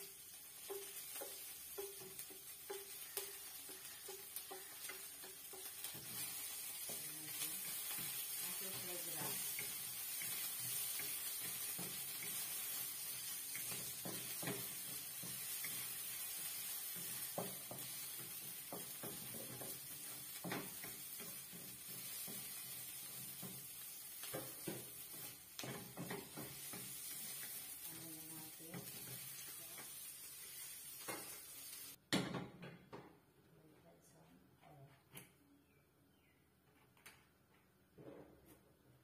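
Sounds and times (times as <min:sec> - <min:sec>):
faint sizzling hiss: 0:00.0 - 0:32.1
spatula scraping a wok: 0:00.6 - 0:32.0.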